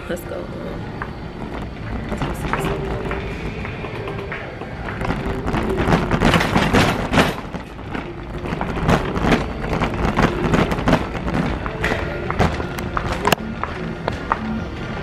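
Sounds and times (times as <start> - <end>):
shopping cart rolling and rattling: 0.0 - 15.0.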